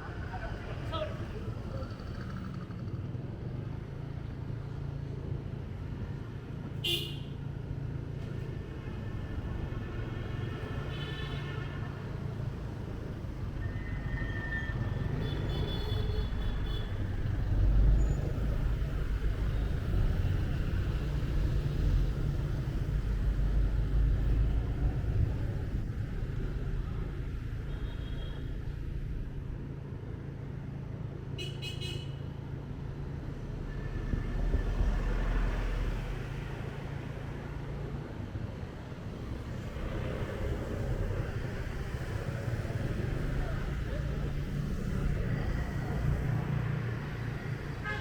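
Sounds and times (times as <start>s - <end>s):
motorbike engine and road rumble: 0.0s - 9.6s, 11.8s - 48.0s.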